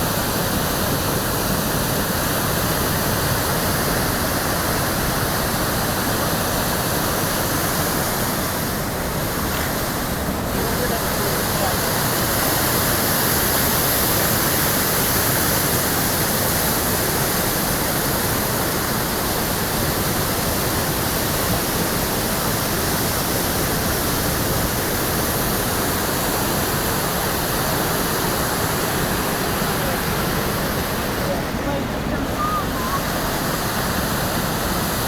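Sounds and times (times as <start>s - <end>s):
river rushing in flood: 0.0s - 35.0s.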